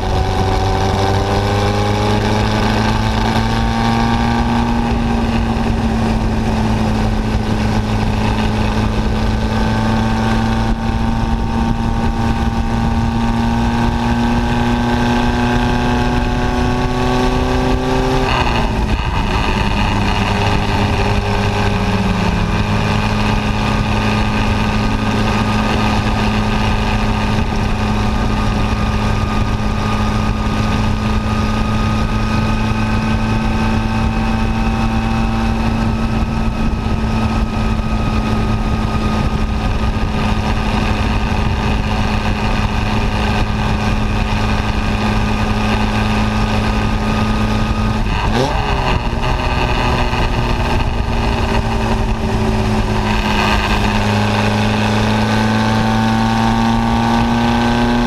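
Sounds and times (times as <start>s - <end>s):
racing car engine at high revs: 0.0s - 58.0s.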